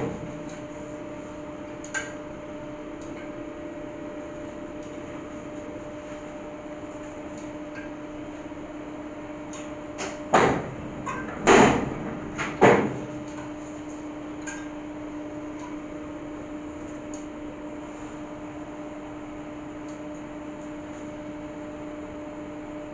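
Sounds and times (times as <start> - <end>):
machine hum: 0.0 - 22.9.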